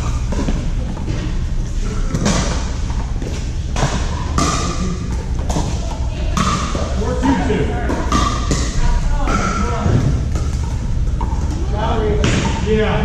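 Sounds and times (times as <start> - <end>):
paddles hitting plastic balls: 0.0 - 12.7.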